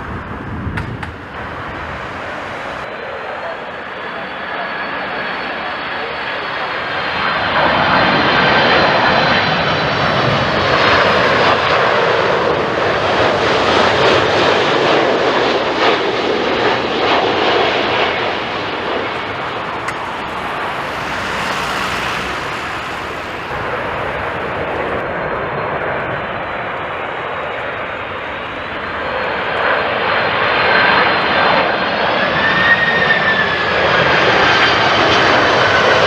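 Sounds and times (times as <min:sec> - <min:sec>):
jet airliner roaring past: 0:00.0 - 0:36.0.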